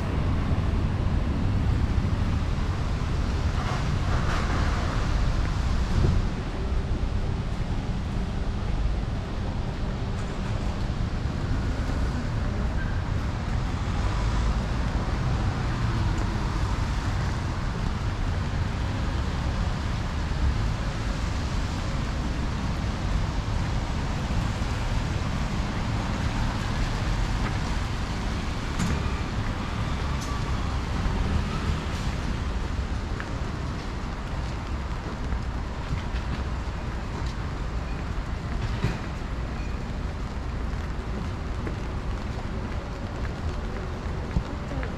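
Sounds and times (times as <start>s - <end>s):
traffic on wet street: 0.0s - 44.9s.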